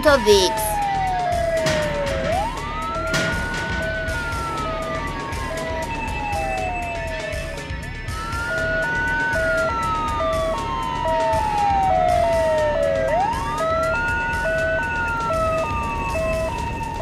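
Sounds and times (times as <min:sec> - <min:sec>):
wailing toy siren: 0:00.1 - 0:17.0.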